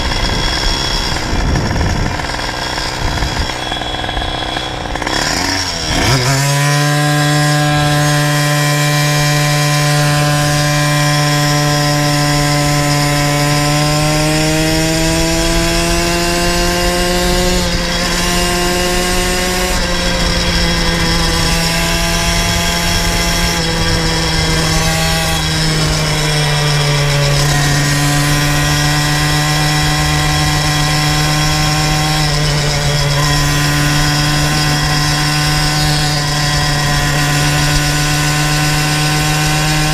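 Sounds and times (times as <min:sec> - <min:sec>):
two-stroke bicycle engine buzzing: 0:00.0 - 0:39.9.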